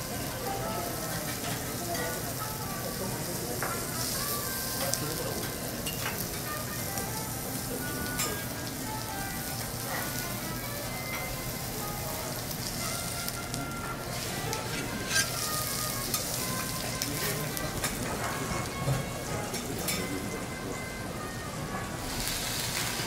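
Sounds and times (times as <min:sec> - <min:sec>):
steak sizzling on griddle: 0:00.0 - 0:20.5, 0:21.9 - 0:23.0.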